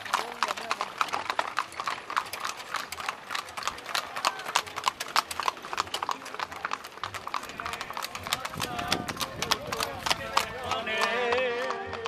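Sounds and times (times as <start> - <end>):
hooves clip-clopping on asphalt: 0.0 - 12.0.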